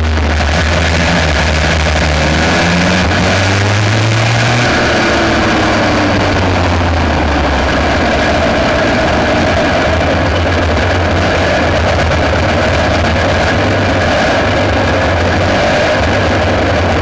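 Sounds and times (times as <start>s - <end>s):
kart engine revving: 0.0s - 17.0s
wind noise: 0.0s - 17.0s.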